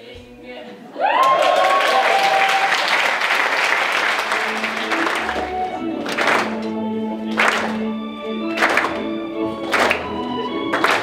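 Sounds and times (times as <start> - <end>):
crowd applauding and cheering: 1.0 - 11.0.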